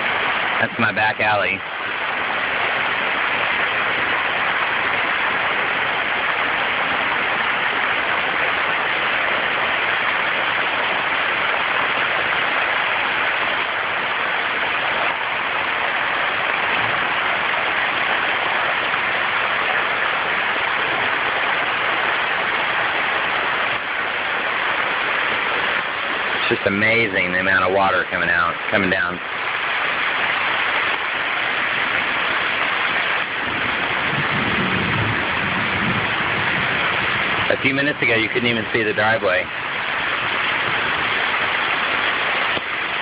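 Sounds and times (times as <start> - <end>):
heavy rain pounding: 0.0 - 43.0
water pouring off a roof: 0.0 - 43.0.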